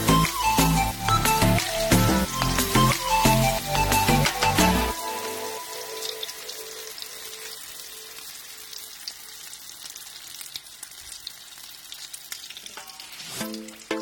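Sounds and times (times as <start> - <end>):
pastries frying in hot oil: 0.7 - 14.0.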